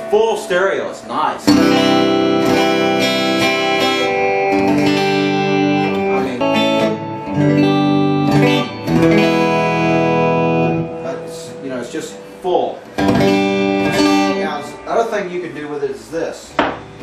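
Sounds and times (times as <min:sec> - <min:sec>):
guitar chords strummed: 0:00.0 - 0:15.7, 0:16.5 - 0:17.0.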